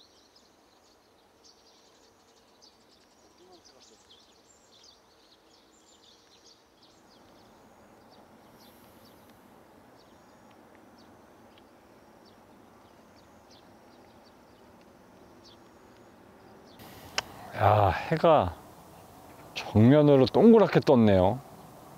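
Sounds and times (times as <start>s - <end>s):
small birds chirping: 0.0s - 21.9s
soft outdoor hiss: 0.0s - 21.9s.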